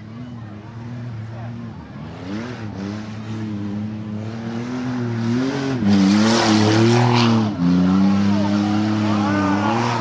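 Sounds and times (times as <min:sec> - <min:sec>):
race car engines revving: 0:00.0 - 0:10.0.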